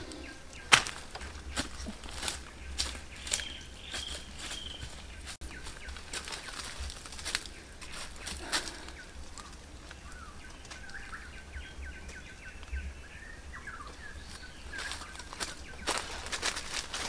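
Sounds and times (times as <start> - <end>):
footsteps on dry leaves: 0.0 - 11.4, 13.6 - 17.0
bird chirping: 0.0 - 17.0.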